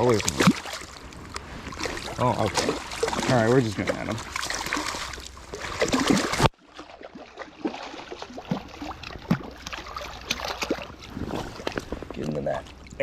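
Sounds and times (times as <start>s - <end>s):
creek water splashing: 0.0s - 13.0s.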